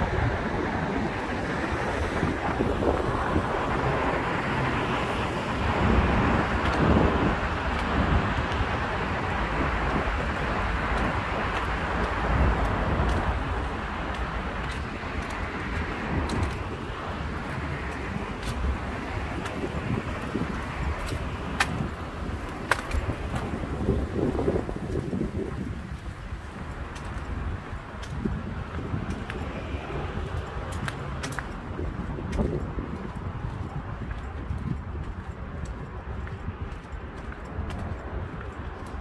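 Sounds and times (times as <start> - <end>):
road traffic passing: 0.0 - 39.0
wind rumbling on microphone: 0.0 - 39.0.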